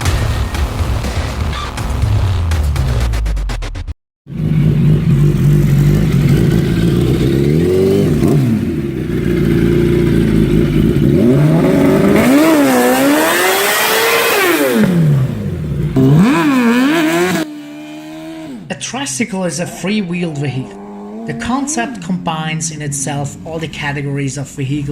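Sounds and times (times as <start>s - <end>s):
motorcycle engine idling and revving: 0.0s - 24.9s.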